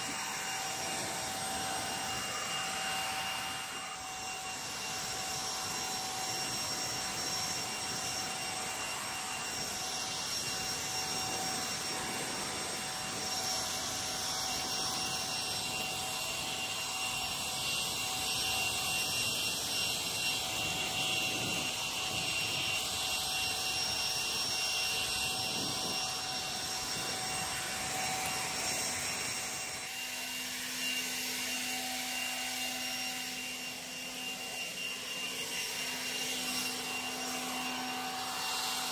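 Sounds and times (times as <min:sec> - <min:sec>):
leaf blower running: 0:00.0 - 0:38.9.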